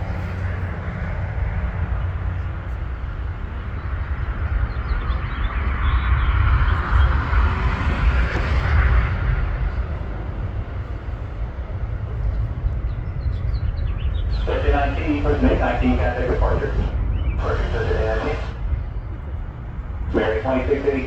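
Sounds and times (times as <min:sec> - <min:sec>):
distant jet engines rumbling: 0:00.0 - 0:21.0.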